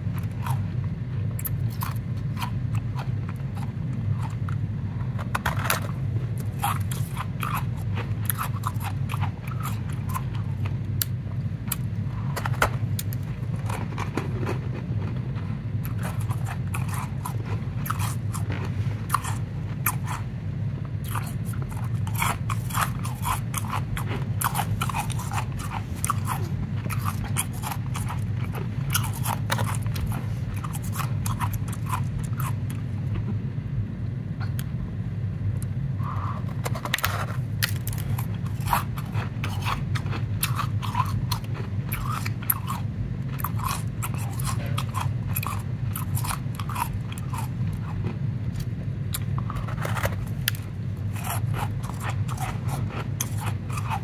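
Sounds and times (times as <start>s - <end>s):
ice being chewed: 0.0s - 20.3s, 21.0s - 32.9s, 36.0s - 54.0s
low steady hum: 0.0s - 54.0s.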